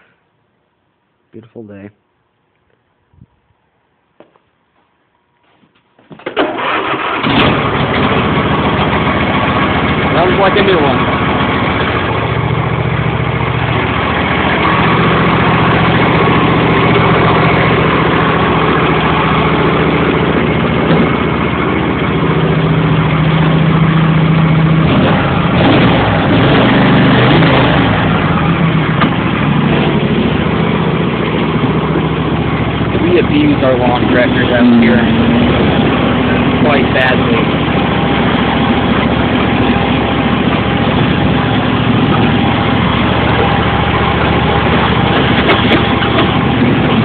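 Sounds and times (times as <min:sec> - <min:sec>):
lawn tractor engine running: 0:06.2 - 0:47.0.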